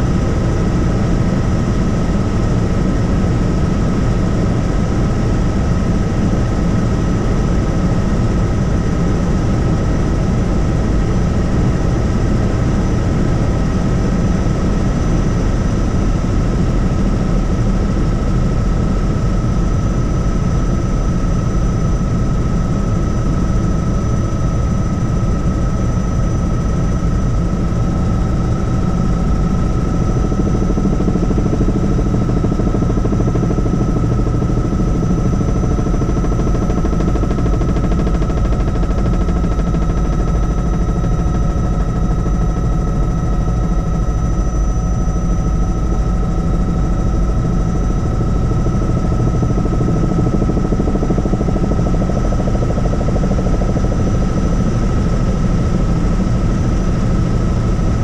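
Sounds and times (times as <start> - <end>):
helicopter rotor and engine rumble: 0.0 - 58.0
thin steady whine: 0.0 - 58.0.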